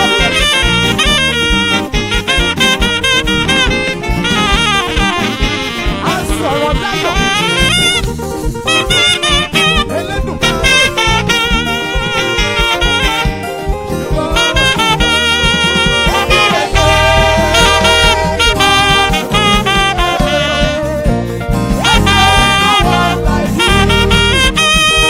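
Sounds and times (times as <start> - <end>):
saxophone melody: 0.0 - 25.0
steady beat and bass: 0.0 - 25.0.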